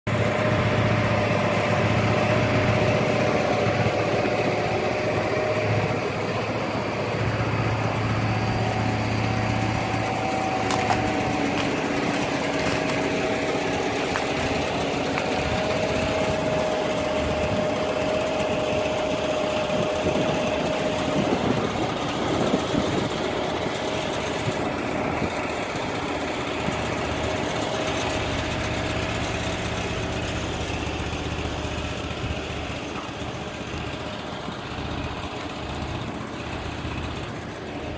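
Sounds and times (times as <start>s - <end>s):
engine idling: 0.1s - 37.9s.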